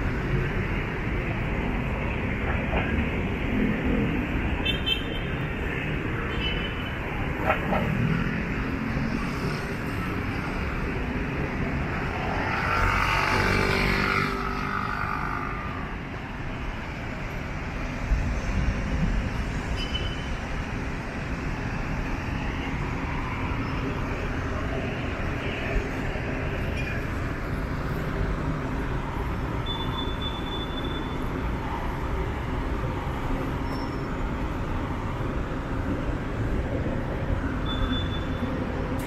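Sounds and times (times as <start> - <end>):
city traffic rumble: 0.0 - 39.0.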